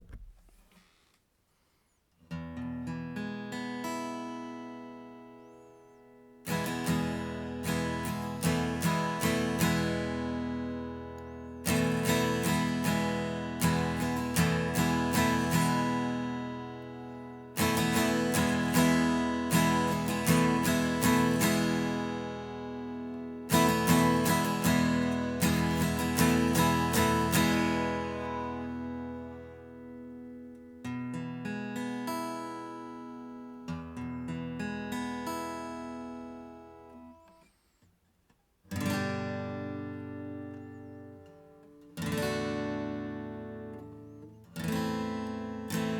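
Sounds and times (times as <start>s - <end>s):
acoustic guitar chords: 2.3s - 37.4s, 38.7s - 45.9s.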